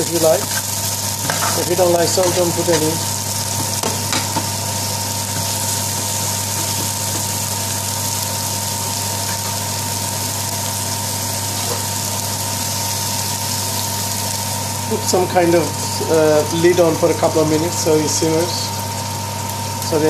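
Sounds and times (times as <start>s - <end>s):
constant low hum: 0.0s - 20.0s
onions sizzling in oil: 0.0s - 20.0s.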